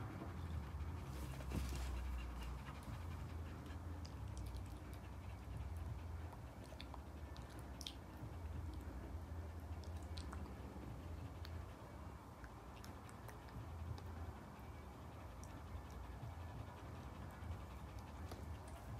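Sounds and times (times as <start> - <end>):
dogs panting: 0.0 - 18.9.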